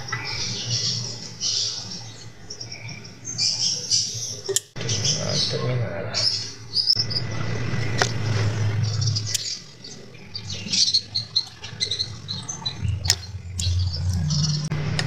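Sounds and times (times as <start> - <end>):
birds chirping: 0.0 - 15.0
low steady hum: 0.0 - 15.0.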